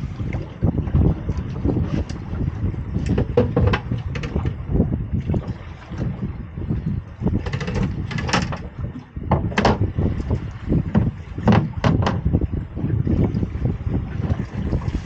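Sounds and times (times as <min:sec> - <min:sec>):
low rumble: 0:00.0 - 0:15.0
knocks and scrapes on boat: 0:00.2 - 0:15.0.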